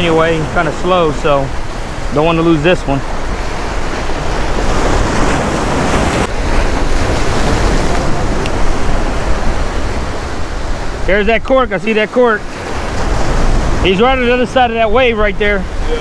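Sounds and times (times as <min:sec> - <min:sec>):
wind buffeting microphone: 0:00.0 - 0:11.5, 0:12.4 - 0:16.0.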